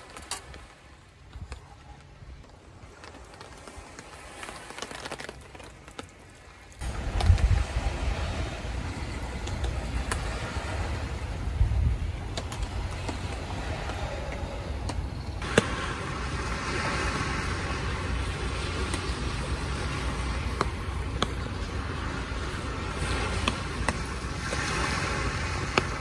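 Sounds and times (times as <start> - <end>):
low wind rumble: 0.0 - 26.0
steady rain: 2.4 - 26.0.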